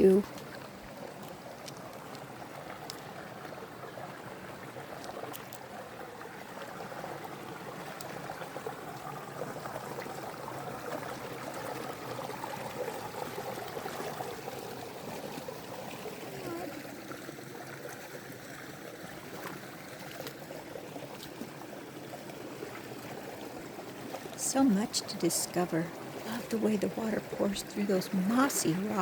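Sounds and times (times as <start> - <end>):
creek running over rocks: 0.0 - 29.0.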